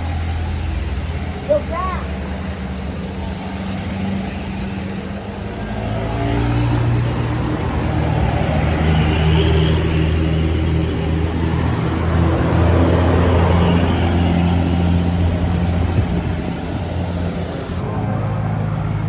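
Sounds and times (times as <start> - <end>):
bus diesel engine: 0.0 - 19.0.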